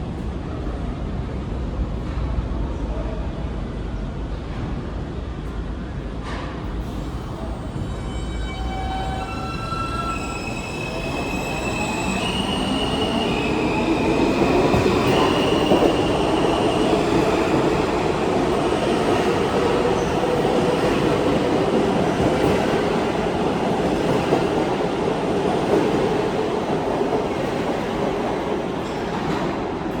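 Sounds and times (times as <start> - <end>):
train wheels rumbling on rails: 3.9 - 30.0.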